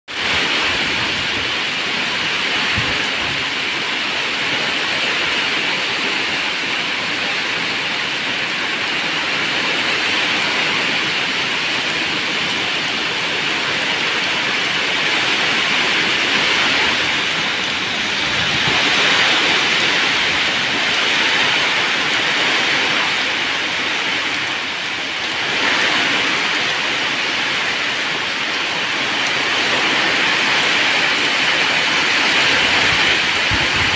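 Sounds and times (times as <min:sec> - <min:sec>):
heavy rain on tree foliage: 0:00.1 - 0:33.9.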